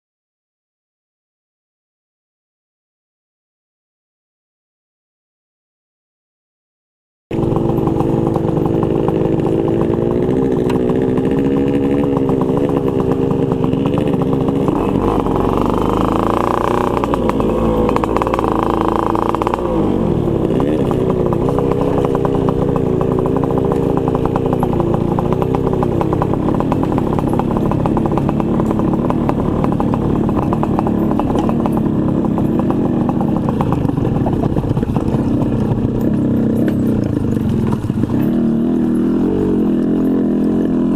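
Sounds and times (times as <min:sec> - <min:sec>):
two-stroke motorcycle engine: 0:07.3 - 0:40.9.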